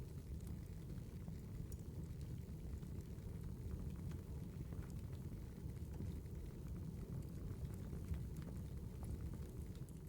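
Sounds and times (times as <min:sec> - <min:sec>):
fire crackles and pops: 0:00.0 - 0:10.0
fire low rumble: 0:00.0 - 0:10.0.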